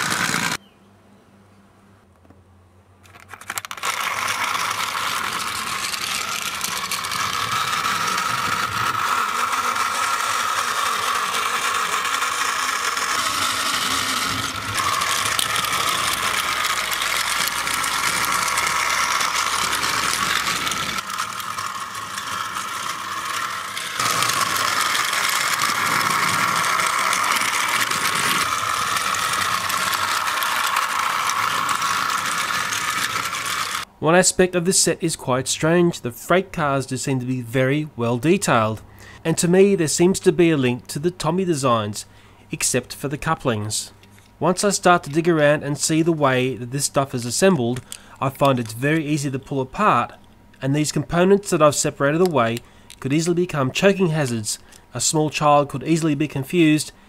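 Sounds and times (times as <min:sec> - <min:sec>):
toy train motor whirring and rattling: 0:00.0 - 0:00.6, 0:03.0 - 0:33.9, 0:39.3 - 0:57.0.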